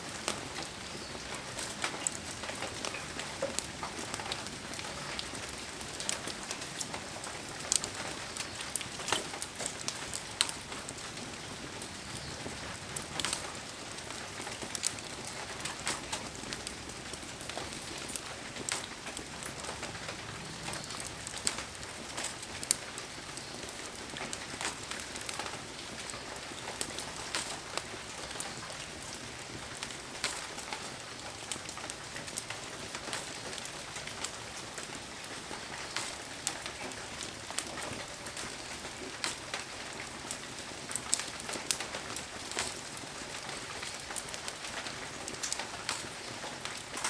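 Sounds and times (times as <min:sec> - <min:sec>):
heavy rain falling: 0:00.0 - 0:47.0
raindrops ticking close by: 0:00.0 - 0:47.0.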